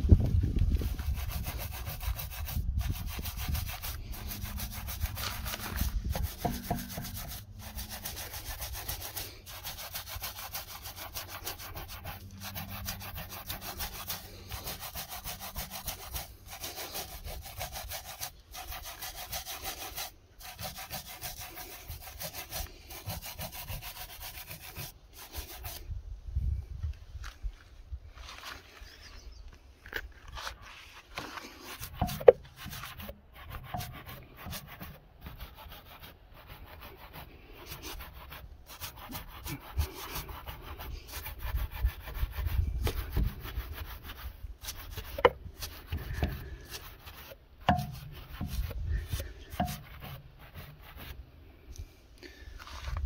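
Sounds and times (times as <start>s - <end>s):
brush scrubbing metal wheel: 0.6s - 25.9s, 30.3s - 51.2s.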